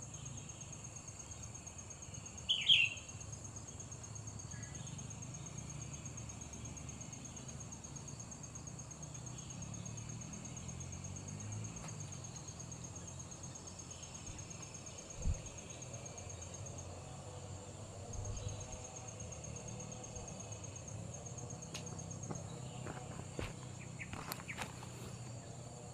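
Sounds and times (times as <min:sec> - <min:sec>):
insect trilling: 0:00.9 - 0:25.6.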